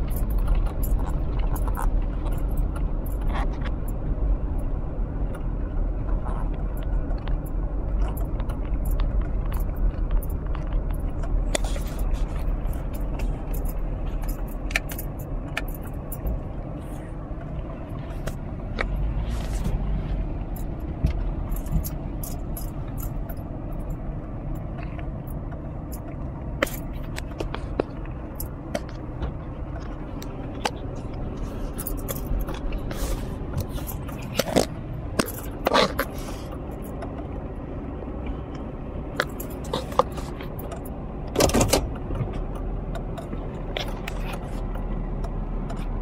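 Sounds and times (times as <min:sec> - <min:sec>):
car cabin road rumble: 0:00.0 - 0:46.0
sharp clicks and rattles: 0:00.0 - 0:46.0.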